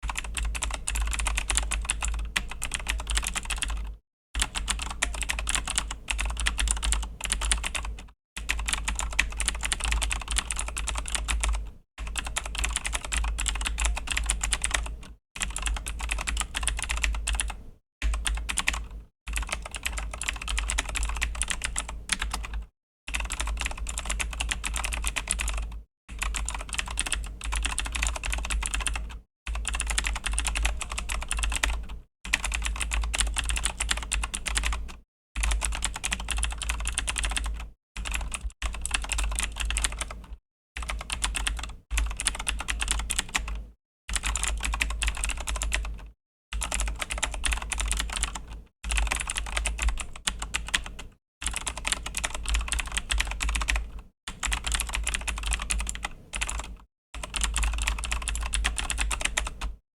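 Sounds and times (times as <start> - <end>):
mechanical keyboard typing: 0.0 - 46.0, 46.6 - 59.8.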